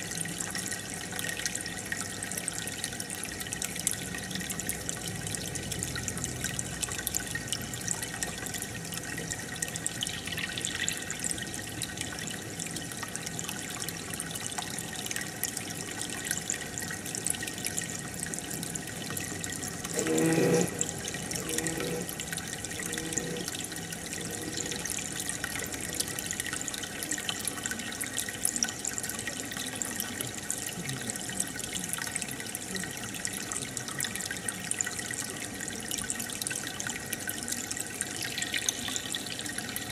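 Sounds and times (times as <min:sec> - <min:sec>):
aquarium bubbles fizzing: 0:00.0 - 0:39.9
water trickling: 0:00.0 - 0:39.9.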